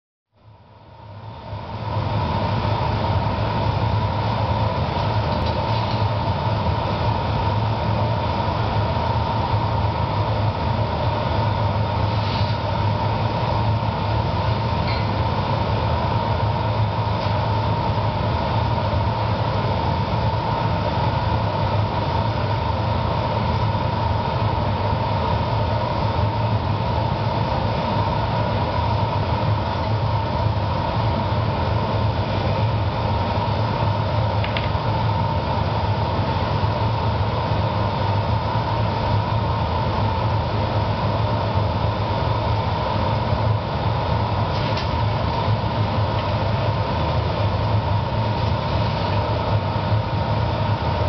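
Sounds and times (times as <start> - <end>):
furnace burners and blowers roaring: 0.3 - 51.0
steady whine: 0.3 - 51.0
low hum: 0.4 - 51.0.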